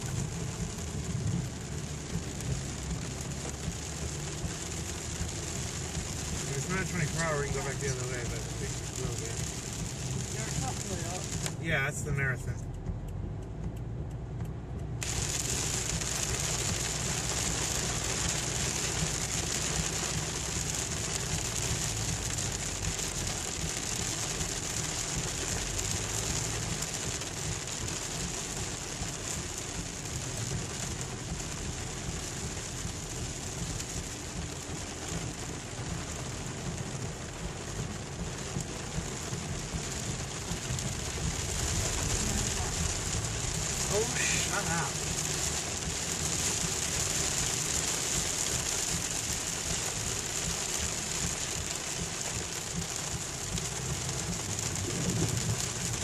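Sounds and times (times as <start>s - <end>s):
heavy rain on car: 0.0s - 56.0s
moving car rumble: 0.0s - 56.0s.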